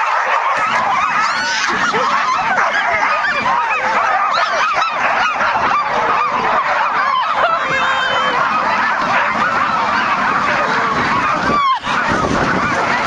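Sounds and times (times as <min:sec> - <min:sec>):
sled dogs barking and yelping: 0:00.0 - 0:13.0.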